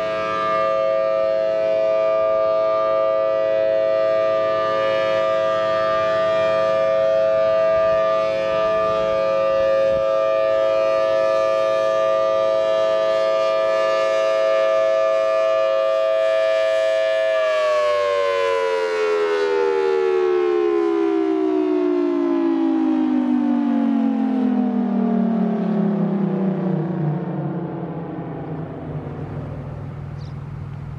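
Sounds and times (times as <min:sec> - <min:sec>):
warning siren winding down: 0:00.0 - 0:30.9.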